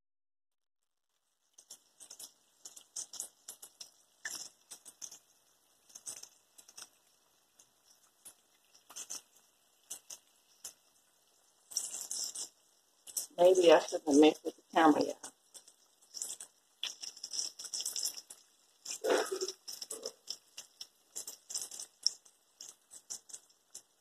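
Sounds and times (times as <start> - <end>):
bacon frying in hot oil: 0.8 - 24.0.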